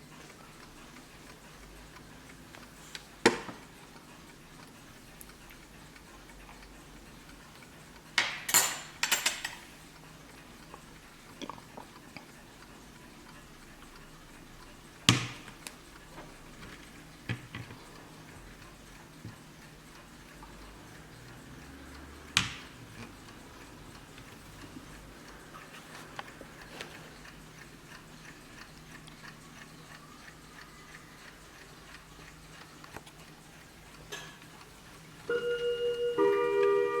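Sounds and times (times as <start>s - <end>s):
mantel clock ticking: 0.0s - 37.0s.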